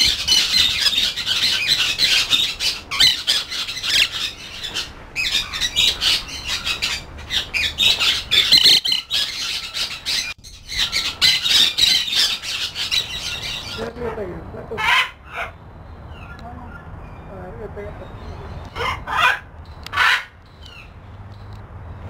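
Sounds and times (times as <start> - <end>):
caged birds squawking: 0.0 - 21.3.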